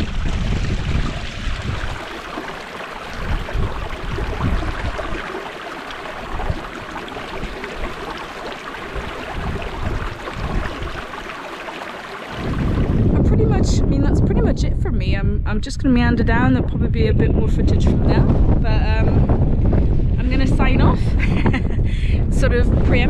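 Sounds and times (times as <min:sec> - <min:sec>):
wind buffeting microphone: 0:00.0 - 0:11.6, 0:12.2 - 0:23.0.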